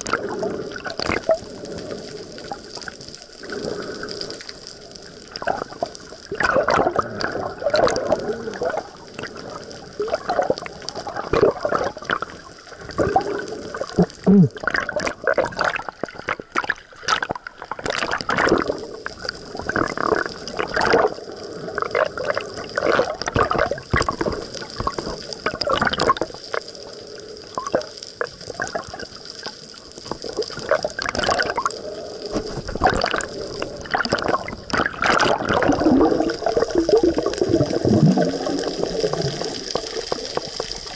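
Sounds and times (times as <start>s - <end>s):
underwater clicks and crackles: 0.0s - 40.9s
underwater sloshing and gurgling: 0.0s - 40.9s.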